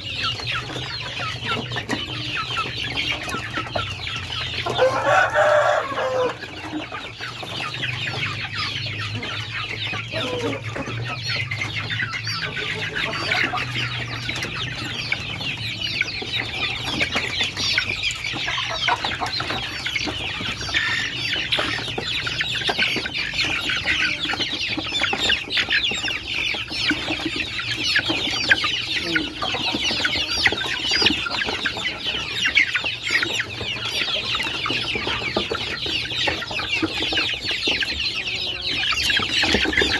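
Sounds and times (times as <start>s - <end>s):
clucking: 0.0s - 39.9s
young poultry calling: 0.0s - 39.9s.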